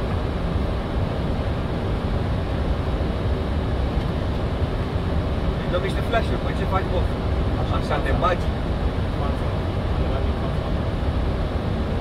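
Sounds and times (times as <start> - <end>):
cockpit airflow and engine rush: 0.0 - 12.0.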